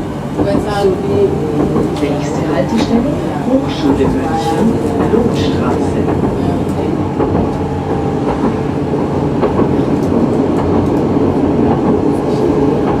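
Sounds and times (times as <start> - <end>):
faint clicks from rails: 0.0 - 13.0
tram motors and wheels rumbling: 0.0 - 13.0.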